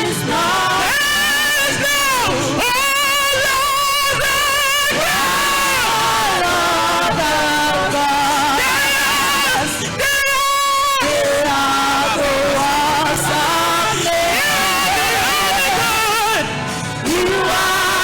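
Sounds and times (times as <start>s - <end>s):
worship music: 0.0s - 18.0s.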